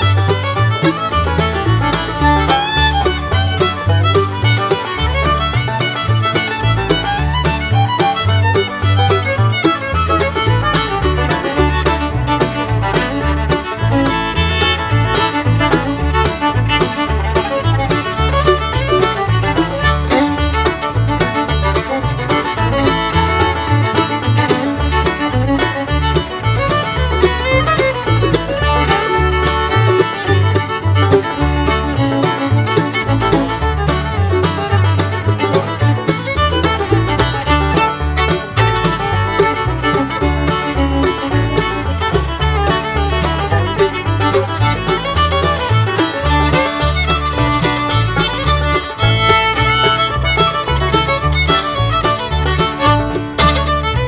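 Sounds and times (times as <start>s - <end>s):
instrumental music with bass beat: 0.0s - 54.0s.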